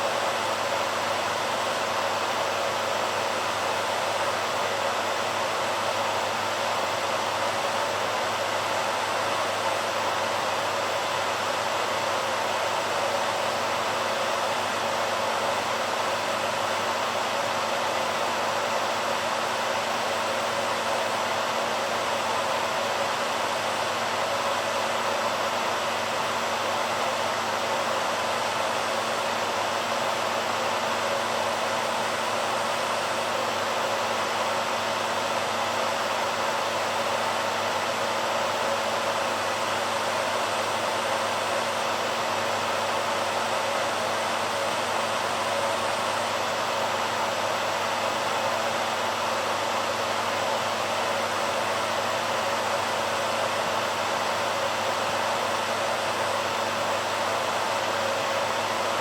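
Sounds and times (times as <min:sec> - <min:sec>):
hairdryer blowing air: 0:00.0 - 0:59.0.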